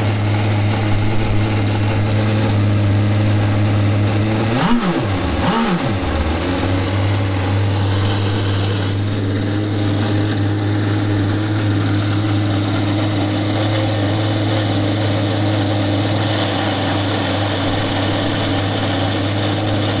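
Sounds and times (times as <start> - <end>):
two-stroke boat engine idling: 0.0 - 20.0.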